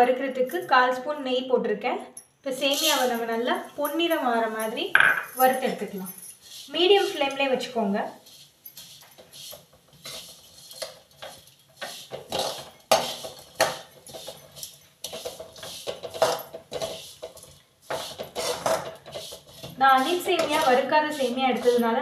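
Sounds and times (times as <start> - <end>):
metal spoon scraping a pan: 2.6 - 22.0.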